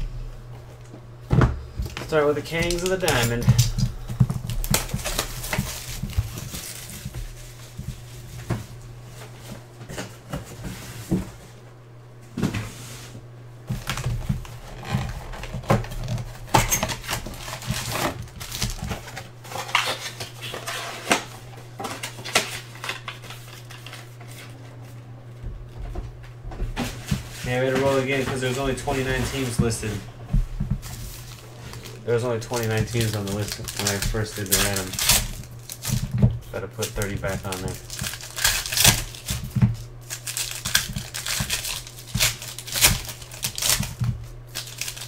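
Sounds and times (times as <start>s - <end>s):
steady low hum: 0.0s - 45.0s
cardboard rustling: 1.3s - 11.6s, 12.4s - 45.0s
shrink-wrap crinkling: 1.6s - 10.1s, 13.7s - 25.0s, 26.8s - 45.0s.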